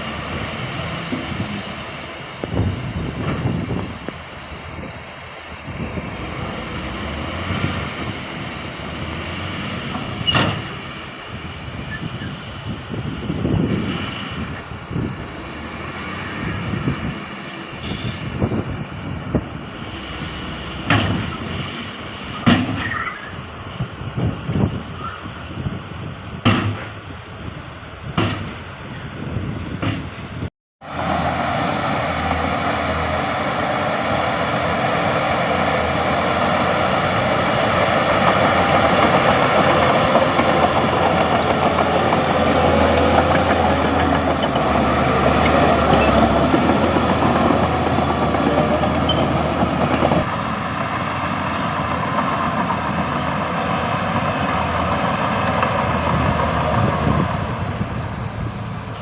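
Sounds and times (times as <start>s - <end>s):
heavy diesel machinery running: 0.0s - 26.2s, 29.1s - 59.0s.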